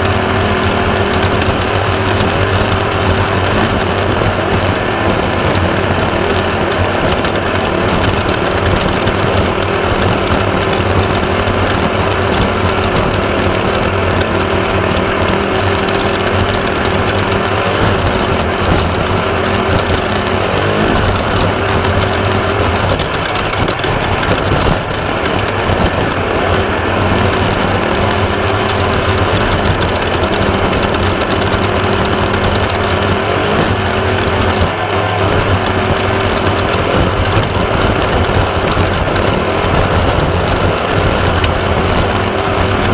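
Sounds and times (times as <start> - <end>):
buggy engine running hard: 0.0 - 42.9
car rattling over rough ground: 0.0 - 42.9.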